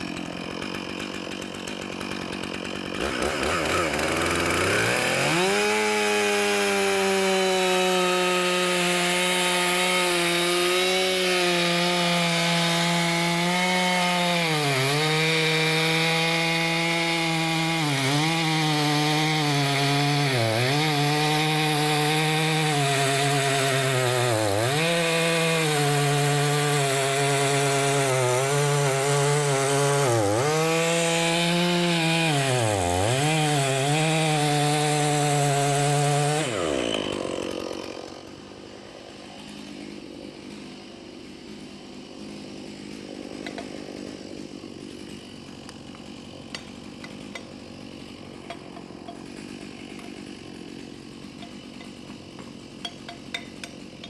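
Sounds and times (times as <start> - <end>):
chainsaw cutting timber: 0.0 - 54.0.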